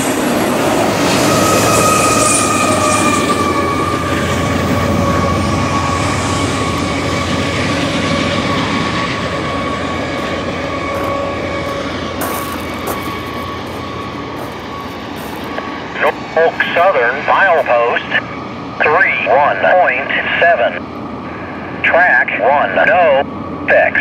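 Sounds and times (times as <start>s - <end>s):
freight train rumbling past: 0.0s - 22.2s, 23.2s - 23.7s
high steady whine: 0.0s - 24.0s.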